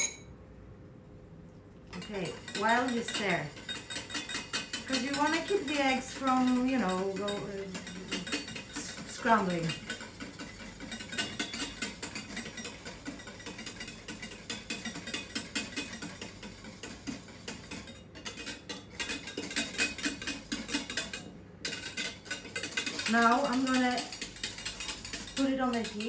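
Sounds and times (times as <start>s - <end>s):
whisk beating in metal saucepan: 2.0s - 26.0s.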